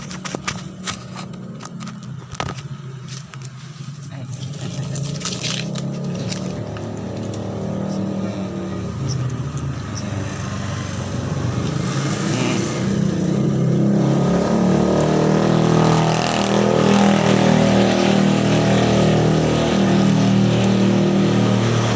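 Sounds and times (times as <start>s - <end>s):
motor vehicle engine running: 0.0s - 21.9s.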